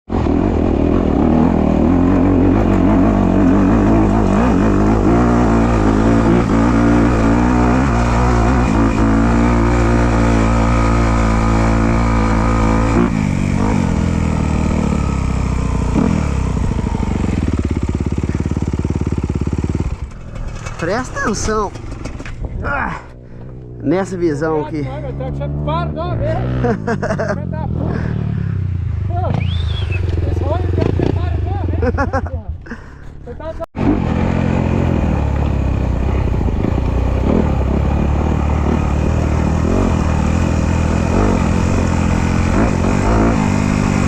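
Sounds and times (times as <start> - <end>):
motorcycle engine running: 0.1 - 24.3, 25.0 - 32.3, 33.8 - 44.0.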